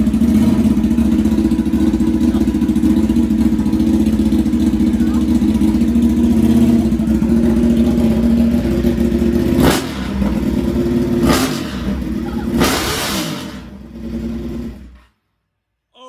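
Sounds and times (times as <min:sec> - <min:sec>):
loud motorcycle engine revving: 0:00.0 - 0:15.0.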